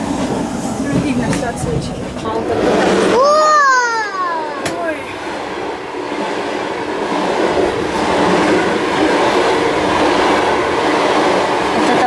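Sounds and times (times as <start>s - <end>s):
train passing on rails: 0.0s - 12.0s.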